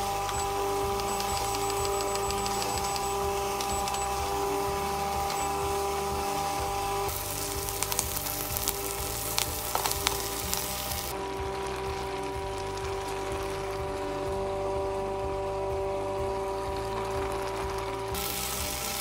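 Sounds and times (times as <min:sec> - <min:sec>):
background music with held tones: 0:00.0 - 0:19.0
vegetables sizzling in pot: 0:00.0 - 0:19.0.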